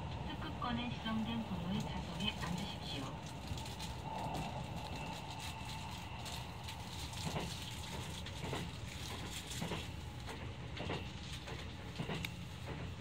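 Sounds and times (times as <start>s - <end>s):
train cabin rumble: 0.0s - 13.0s
train wheel clacks: 1.1s - 13.0s.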